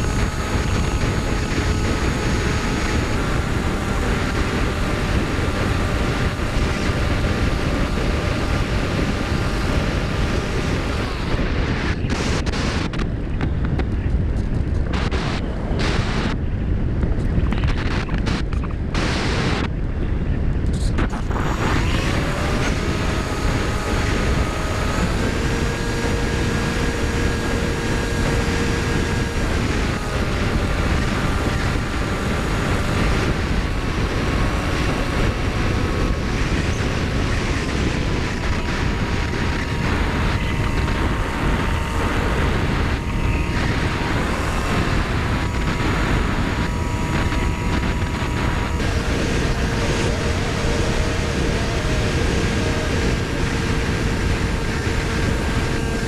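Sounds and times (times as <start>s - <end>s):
electric motor and propeller whine: 0.0s - 56.0s
wind rushing over camera: 0.0s - 56.0s.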